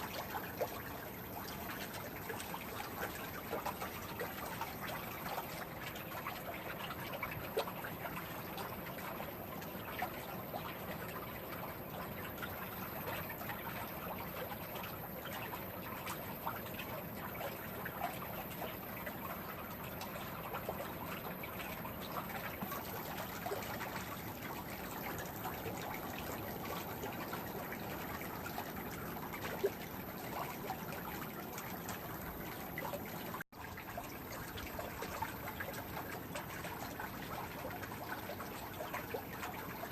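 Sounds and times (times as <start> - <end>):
wash of moving water: 0.0 - 39.9
water drips and splashes: 0.0 - 39.9.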